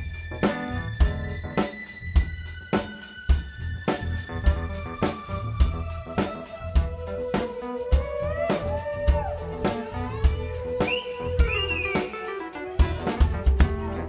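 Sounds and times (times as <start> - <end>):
drum kit beat: 0.0 - 14.0
live rock band instrumental: 0.0 - 14.0.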